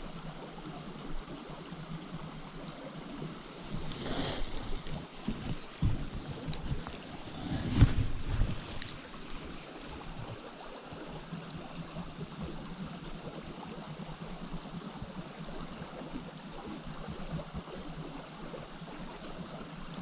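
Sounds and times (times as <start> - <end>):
stream flowing over stones: 0.0 - 20.0.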